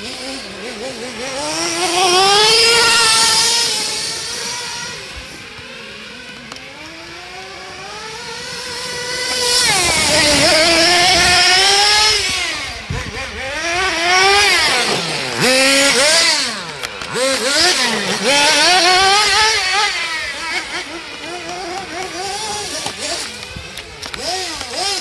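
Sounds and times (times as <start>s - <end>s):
small nitro engine revving: 0.0s - 25.0s.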